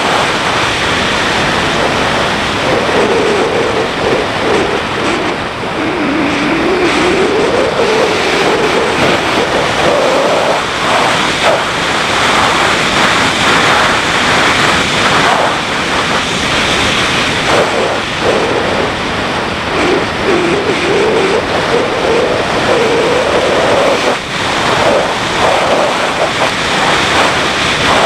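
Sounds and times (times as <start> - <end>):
motorcycle engine revving: 0.0 - 28.0
wind rushing over microphone: 0.0 - 28.0.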